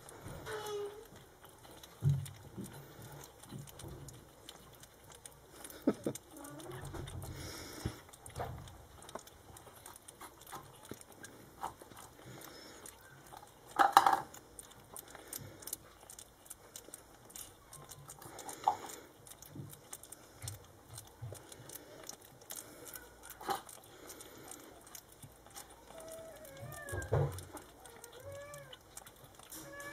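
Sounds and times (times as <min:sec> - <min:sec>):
puppies licking and smacking: 0:00.0 - 0:29.9.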